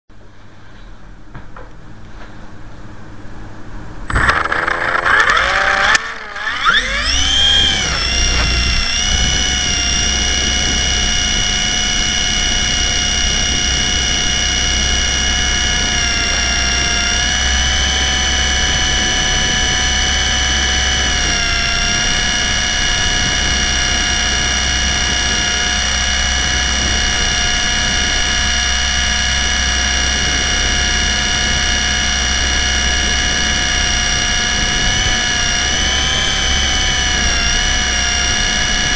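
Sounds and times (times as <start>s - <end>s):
helicopter rotor whine: 4.1s - 38.9s.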